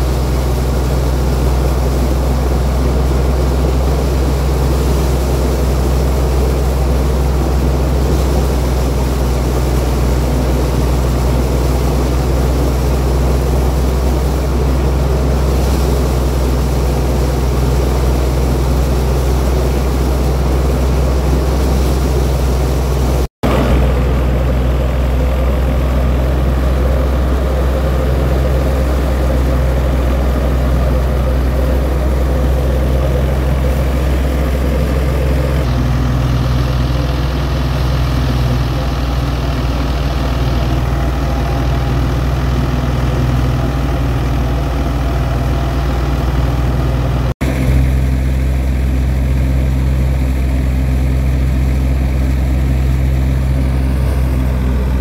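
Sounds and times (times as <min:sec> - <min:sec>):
threshing machine engine drone: 0:00.0 - 0:55.0.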